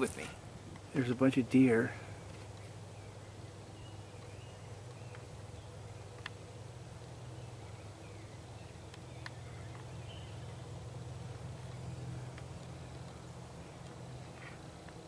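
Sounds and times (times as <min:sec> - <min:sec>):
steady low hum: 0:00.0 - 0:15.0
faint bird chirps: 0:00.9 - 0:06.6, 0:07.2 - 0:14.6.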